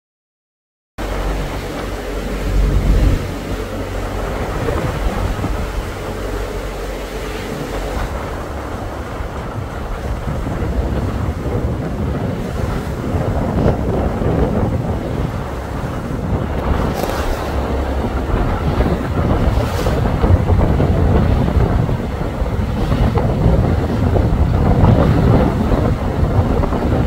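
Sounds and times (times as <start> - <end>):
boat engine rumble: 1.0 - 27.0
rushing water: 1.0 - 27.0
wind buffeting microphone: 1.0 - 27.0.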